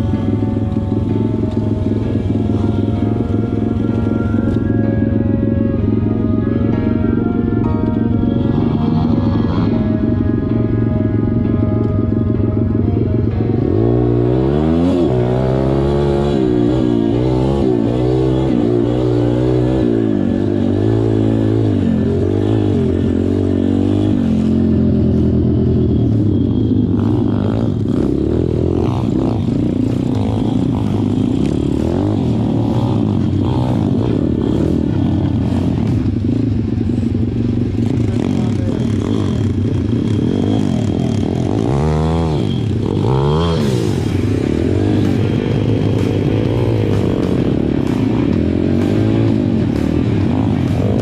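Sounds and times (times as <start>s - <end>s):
dirt bike revving: 0.0s - 51.0s
pit bike engine: 0.0s - 51.0s.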